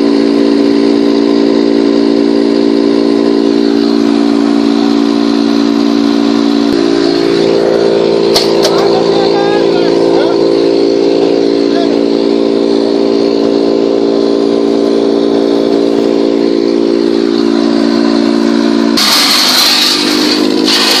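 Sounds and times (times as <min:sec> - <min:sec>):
wood chipper droning hum: 0:00.0 - 0:21.0.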